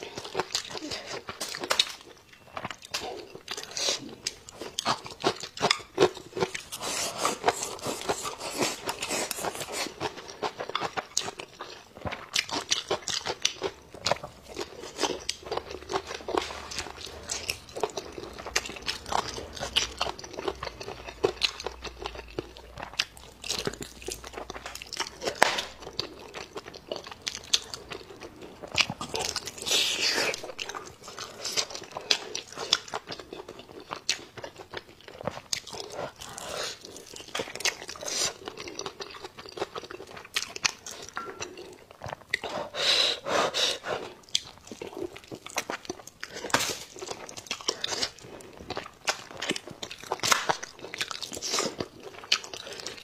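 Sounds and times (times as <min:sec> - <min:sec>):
person chewing meat: 0:00.0 - 0:53.0.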